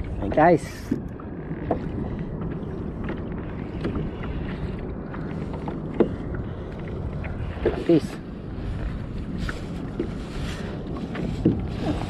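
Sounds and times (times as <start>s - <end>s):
water lapping against kayak hull: 0.0s - 12.0s
wind buffeting microphone: 0.0s - 12.0s.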